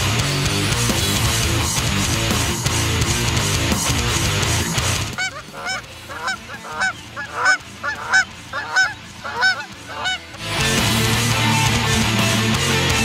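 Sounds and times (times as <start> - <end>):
rock music with distorted guitar: 0.0 - 13.0.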